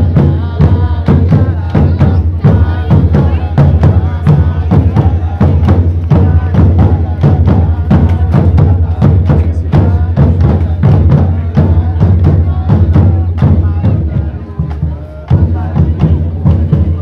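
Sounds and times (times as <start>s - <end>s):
driving drum beat: 0.0s - 17.0s.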